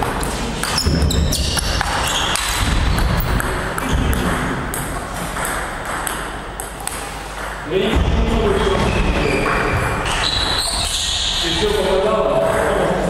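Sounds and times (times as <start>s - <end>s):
ball bouncing on wooden floor: 0.0s - 11.0s.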